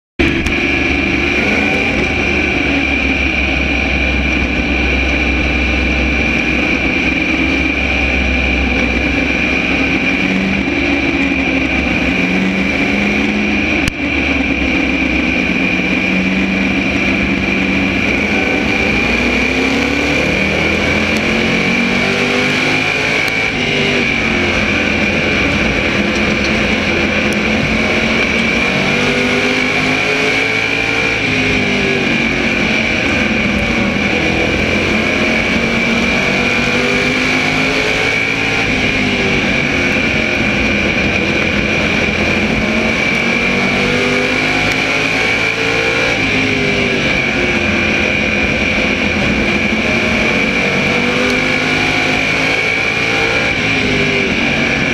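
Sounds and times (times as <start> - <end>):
high whine: 0.2 - 54.9
race car engine: 0.2 - 54.9.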